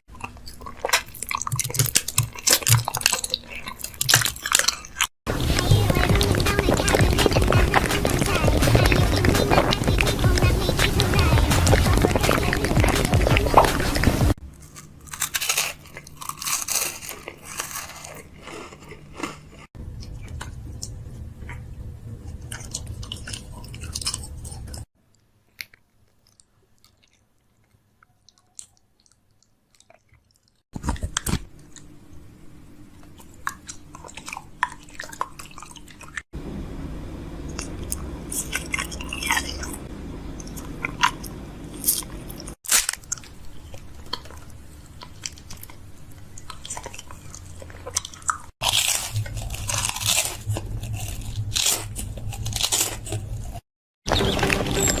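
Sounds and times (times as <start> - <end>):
crunching and chewing: 0.1 - 36.3, 37.5 - 55.0.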